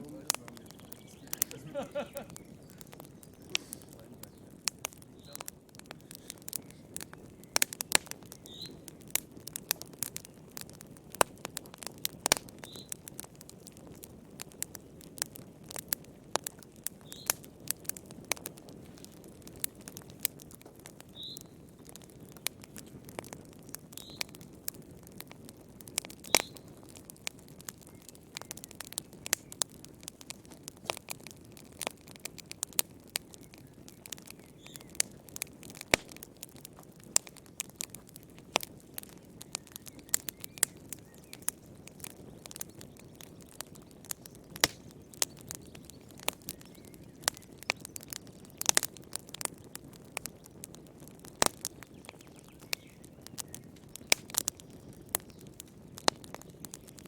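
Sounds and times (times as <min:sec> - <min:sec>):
low rumble of burning logs: 0:00.0 - 0:57.0
wood fire crackling: 0:00.0 - 0:57.0.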